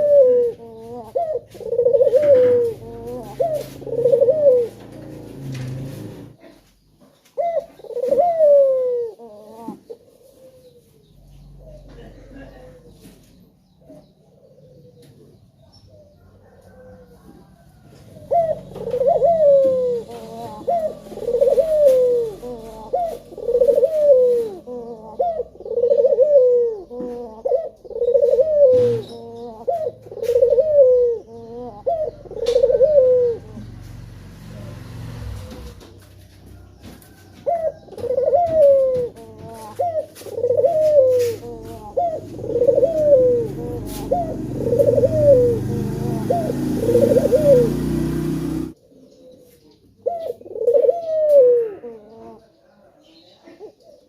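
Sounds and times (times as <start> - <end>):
dove cooing: 0.0 - 13.2, 13.8 - 54.0.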